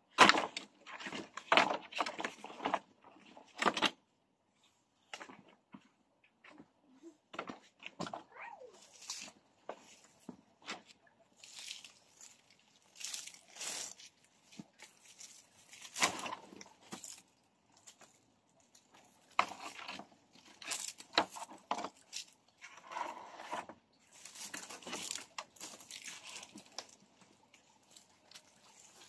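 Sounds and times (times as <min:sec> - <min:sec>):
dry bamboo rustling and crackling: 0:00.0 - 0:04.0, 0:07.3 - 0:29.0.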